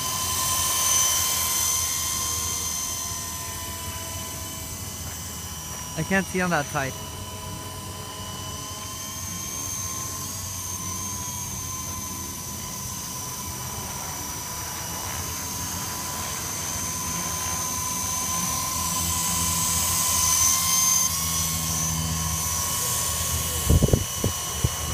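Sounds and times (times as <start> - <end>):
toy helicopter motor whine: 0.0 - 24.9.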